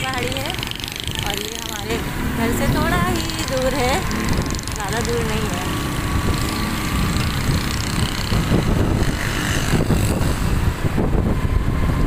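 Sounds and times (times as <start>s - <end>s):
motorcycle engines running: 0.0s - 12.0s
wind buffeting microphone: 0.0s - 12.0s.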